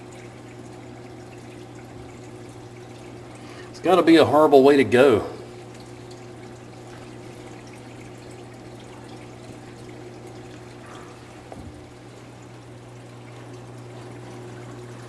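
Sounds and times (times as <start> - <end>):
low electrical hum: 0.0 - 15.0
water trickling: 0.0 - 15.0.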